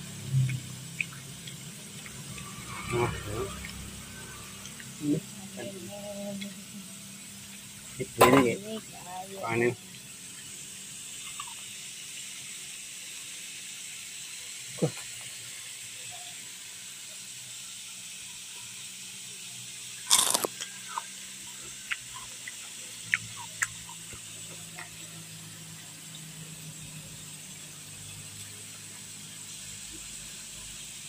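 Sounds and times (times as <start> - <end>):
steady hissing noise: 0.0 - 31.0.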